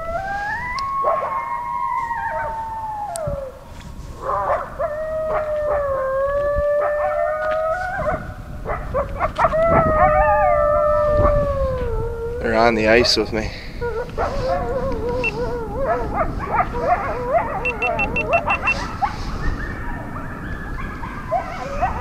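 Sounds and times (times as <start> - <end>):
dogs howling: 0.0 - 22.0.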